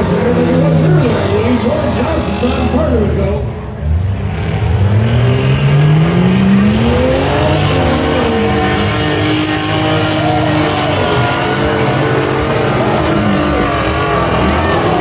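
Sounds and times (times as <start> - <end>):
race truck engines revving: 0.0 - 15.0.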